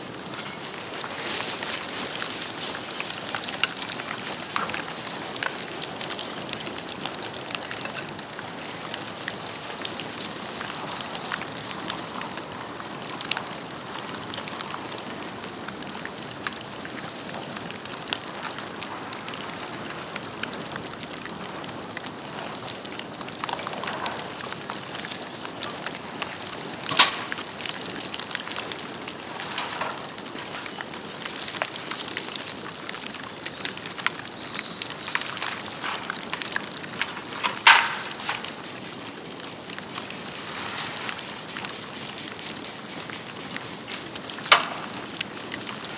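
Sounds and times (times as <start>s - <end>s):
bamboo crackling in a fire: 0.0s - 45.9s.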